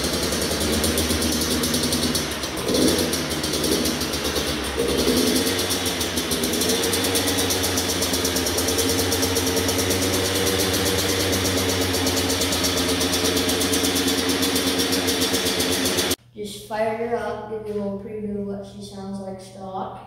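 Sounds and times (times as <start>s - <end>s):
dirt bike engine idling: 0.0s - 16.2s.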